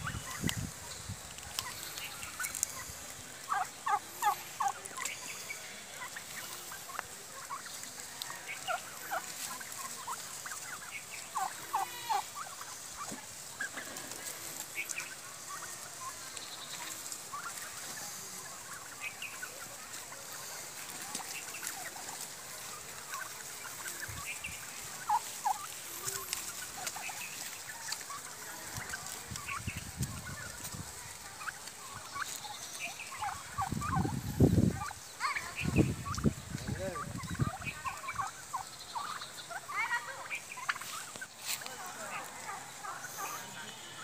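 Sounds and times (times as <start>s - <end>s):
turkeys clucking and yelping: 0.0s - 44.0s.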